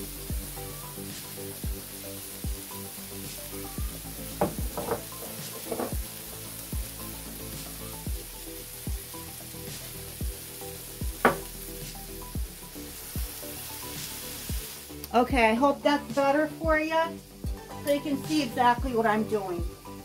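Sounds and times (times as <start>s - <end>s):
patties sizzling in skillet: 0.0s - 20.0s.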